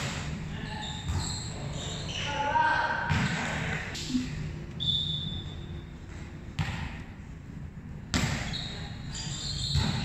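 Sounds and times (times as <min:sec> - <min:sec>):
volleyball thuds in echoing hall: 0:00.0 - 0:10.0.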